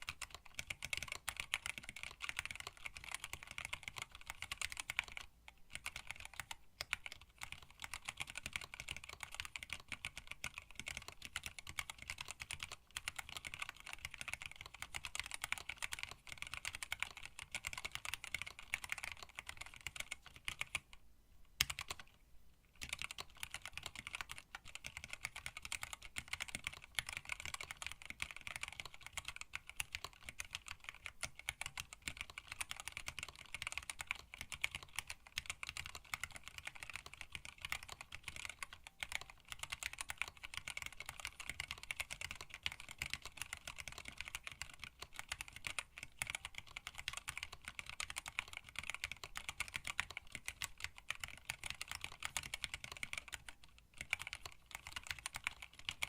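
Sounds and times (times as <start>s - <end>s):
fast mechanical keyboard typing: 0.0s - 20.9s, 21.6s - 22.2s, 22.8s - 56.0s.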